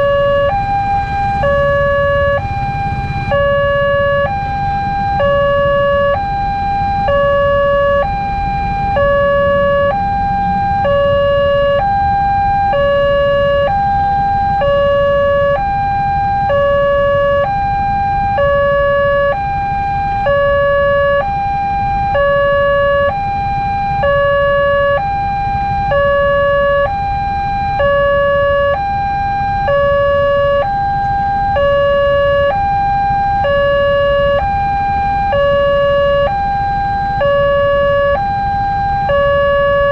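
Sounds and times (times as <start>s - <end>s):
level crossing two-tone alarm: 0.0s - 39.9s
low traffic rumble: 0.0s - 39.9s.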